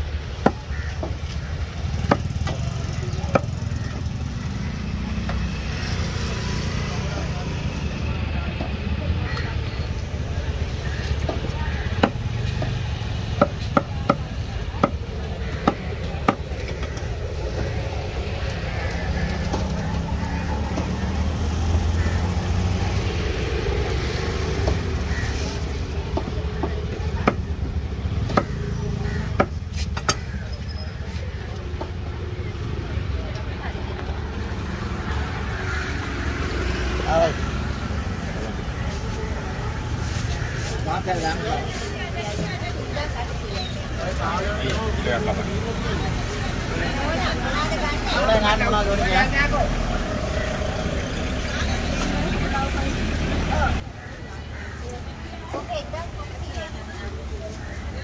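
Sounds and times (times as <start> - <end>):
low rumble of road traffic: 0.0 - 58.0.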